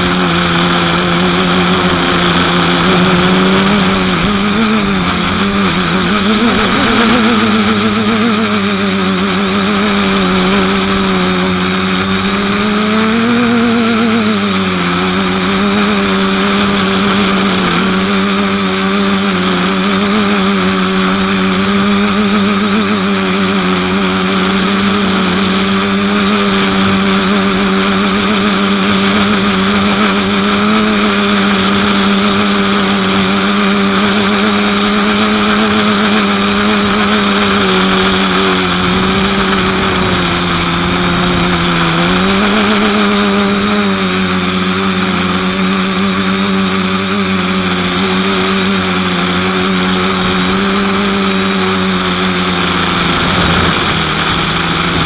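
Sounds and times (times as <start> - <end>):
model plane motor buzzing drone: 0.0 - 55.0.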